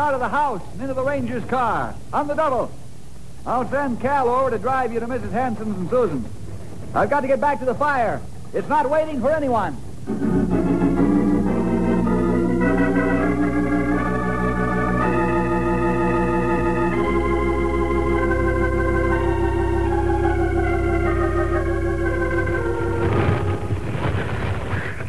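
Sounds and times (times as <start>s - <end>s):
organ chords: 3.4s - 25.0s.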